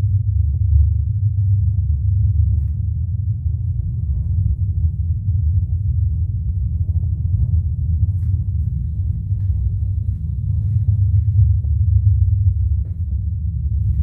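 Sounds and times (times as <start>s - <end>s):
deep bass rumble: 0.0s - 14.0s.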